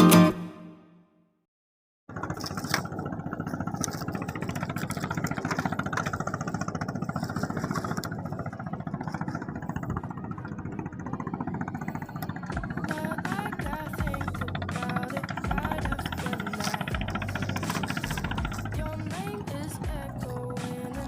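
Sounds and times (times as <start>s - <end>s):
engine running with even chug: 2.1s - 21.0s.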